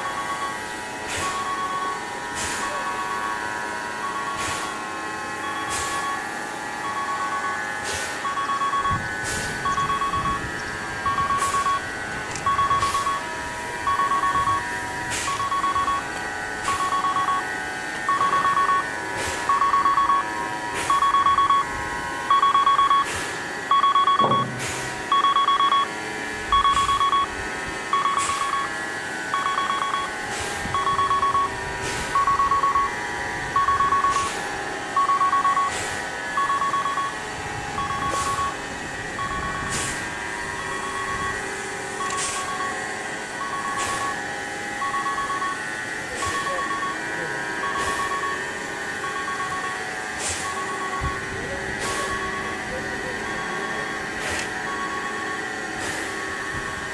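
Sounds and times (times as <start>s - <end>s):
steady hum: 0.0s - 56.9s
turntable warning beeper: 0.0s - 56.9s.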